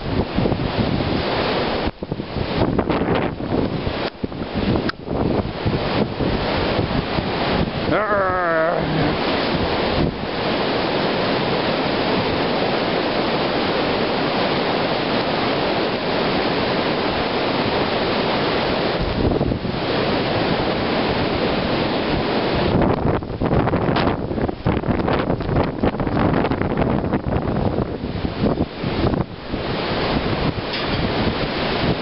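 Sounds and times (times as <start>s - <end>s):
blizzard wind roaring: 0.0s - 32.0s.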